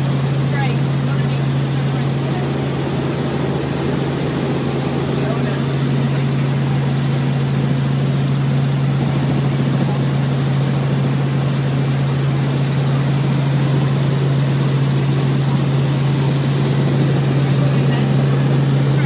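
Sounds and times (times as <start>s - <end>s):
helicopter engine and rotor drone: 0.0s - 19.0s.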